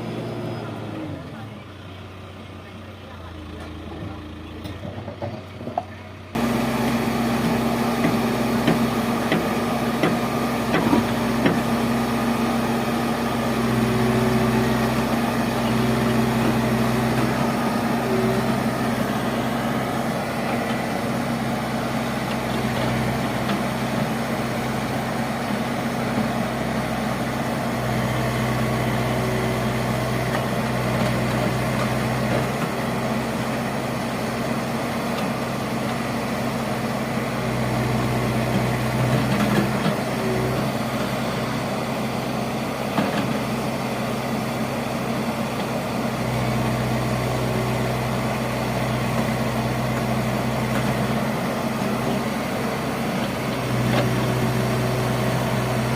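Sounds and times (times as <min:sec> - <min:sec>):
construction machine engine running: 0:00.0 - 0:55.9.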